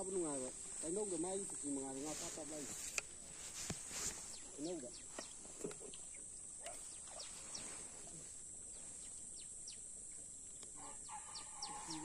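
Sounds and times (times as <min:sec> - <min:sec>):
steady high hiss: 0:00.0 - 0:12.0
small bird chirping: 0:00.8 - 0:12.0.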